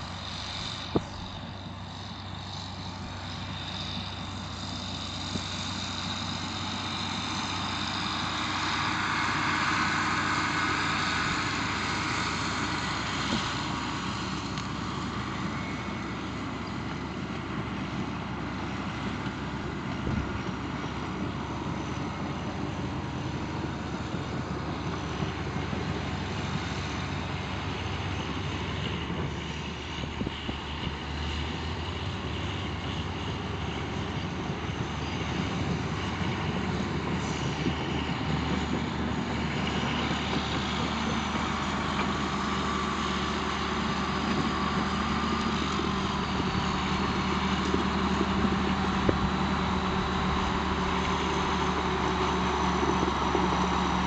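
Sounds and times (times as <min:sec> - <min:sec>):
diesel engine of bulldozer: 0:00.0 - 0:54.0.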